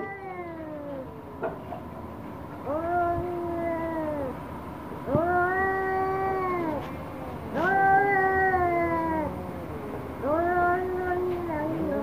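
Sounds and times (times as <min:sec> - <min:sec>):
cat yowling: 0:00.0 - 0:01.3, 0:02.7 - 0:04.4, 0:05.1 - 0:12.0.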